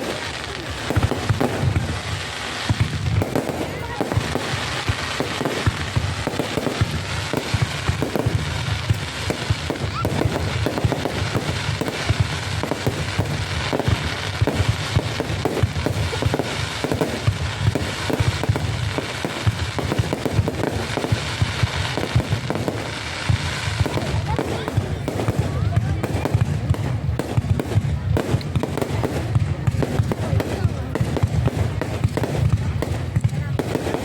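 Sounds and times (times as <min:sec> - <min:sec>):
fireworks cracking and popping: 0:00.0 - 0:34.0.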